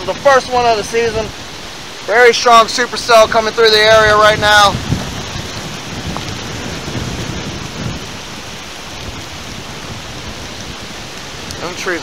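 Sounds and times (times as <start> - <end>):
steady rain falling: 0.0 - 12.0
strong wind tossing trees: 0.0 - 12.0.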